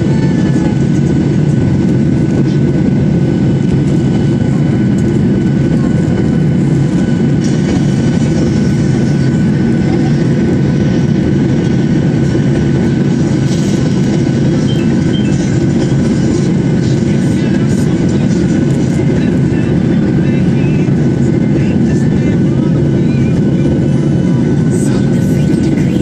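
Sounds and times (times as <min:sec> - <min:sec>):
jet engine and rushing airflow: 0:00.0 - 0:26.0
thin steady whine: 0:00.0 - 0:26.0.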